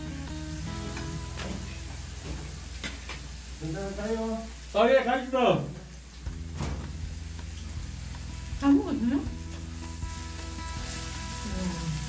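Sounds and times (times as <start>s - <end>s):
beef sizzling on griddle pan: 0.0s - 12.0s
faint music: 0.0s - 12.0s.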